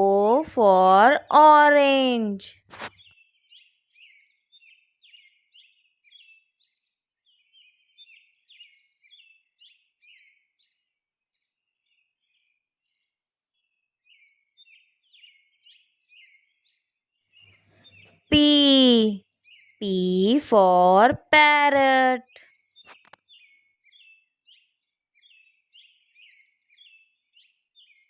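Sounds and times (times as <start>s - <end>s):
small birds chirping: 0.2s - 28.0s.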